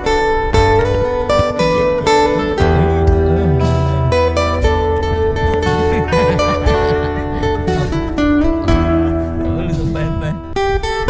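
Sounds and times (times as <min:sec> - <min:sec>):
background music with strummed guitar: 0:00.0 - 0:11.0.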